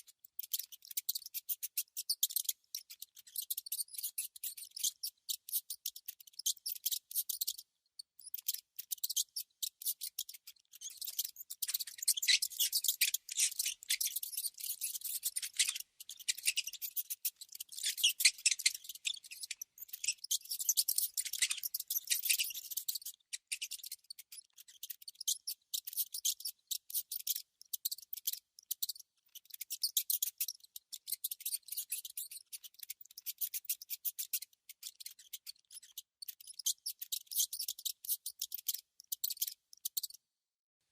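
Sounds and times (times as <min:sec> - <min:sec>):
mouse scratchy clicks: 0:00.0 - 0:40.2.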